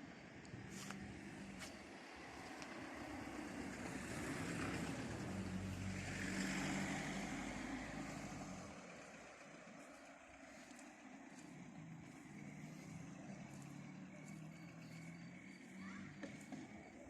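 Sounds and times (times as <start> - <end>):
vehicle passing by: 0.6 - 17.0.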